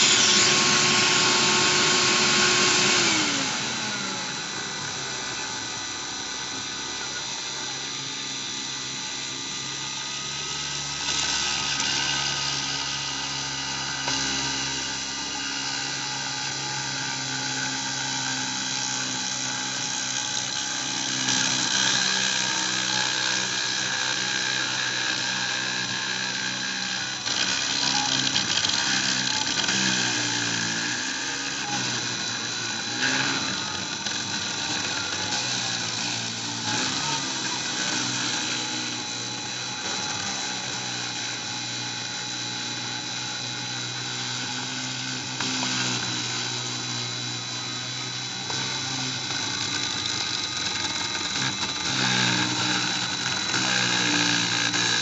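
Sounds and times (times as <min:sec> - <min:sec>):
rotary tool whining: 0:00.0 - 0:55.0
stepper motors whirring: 0:00.0 - 0:55.0.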